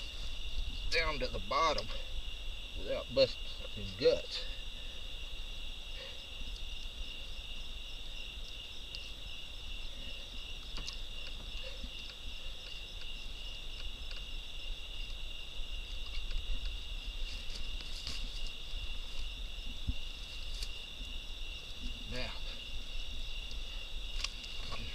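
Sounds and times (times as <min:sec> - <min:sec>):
crickets trilling: 0:00.0 - 0:24.9.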